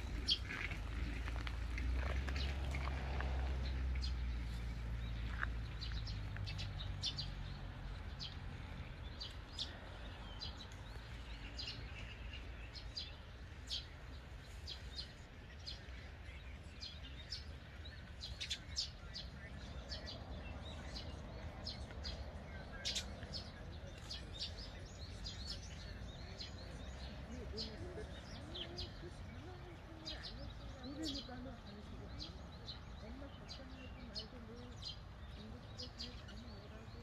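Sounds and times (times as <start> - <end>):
small songbirds chirping: 0.0 - 37.0.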